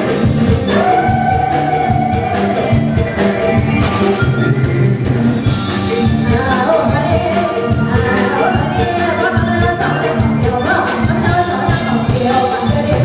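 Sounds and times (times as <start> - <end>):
drum kit beat: 0.0 - 13.0
live band music: 0.0 - 13.0.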